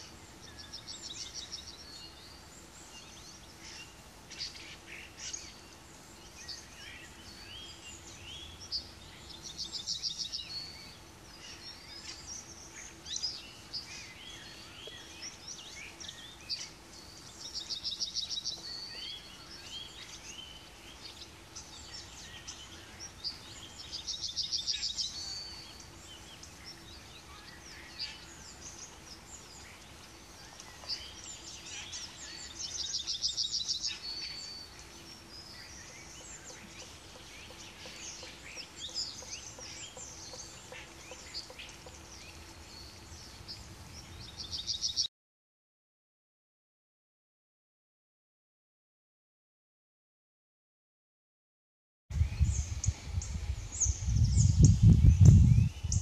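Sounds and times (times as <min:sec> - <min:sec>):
faint steady hum: 0:00.0 - 0:44.9
songbirds chirping: 0:00.0 - 0:45.1, 0:52.1 - 0:56.0.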